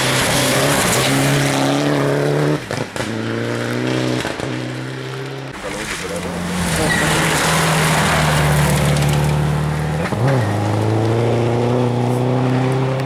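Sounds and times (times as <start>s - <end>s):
rally car engine pulling hard: 0.0s - 13.0s.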